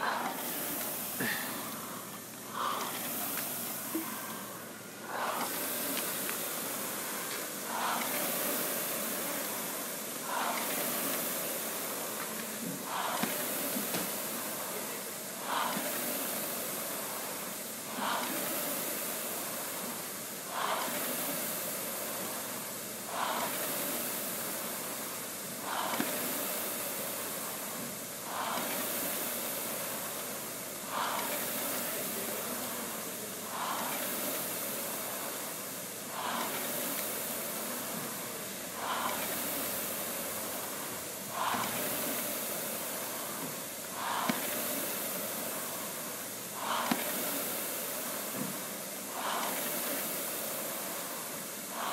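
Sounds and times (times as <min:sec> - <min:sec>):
rowing machine fan whooshing: 0:00.0 - 0:51.9.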